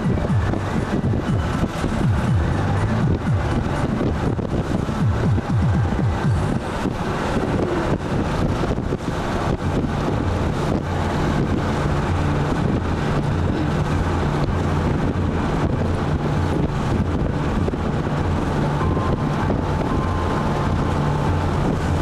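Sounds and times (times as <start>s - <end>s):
vehicle engine hum: 0.0s - 22.0s
wind noise on microphone: 0.0s - 22.0s.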